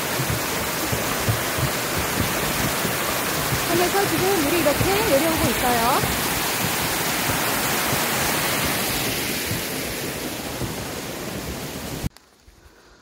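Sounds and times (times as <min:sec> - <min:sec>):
stream rushing over rocks: 0:00.0 - 0:12.4.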